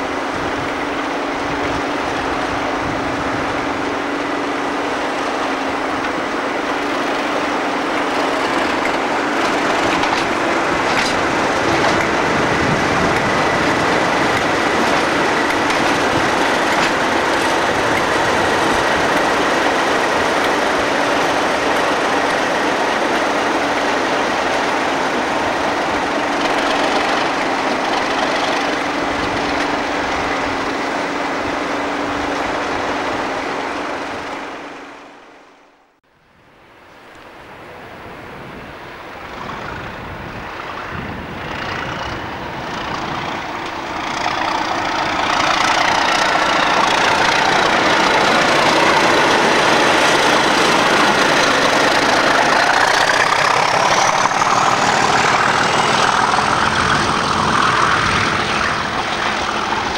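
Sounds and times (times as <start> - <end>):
diesel train rumbling past: 0.0 - 59.9.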